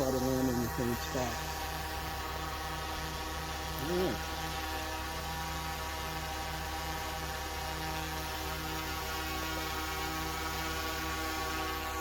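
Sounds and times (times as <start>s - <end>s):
drone propellers whirring: 0.0s - 12.0s.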